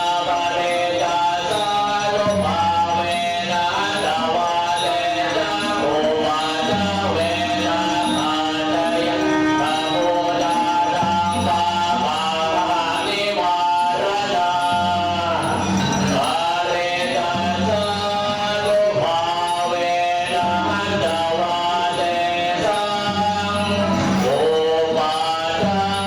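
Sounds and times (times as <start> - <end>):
man singing chant-like notes: 0.0 - 26.0.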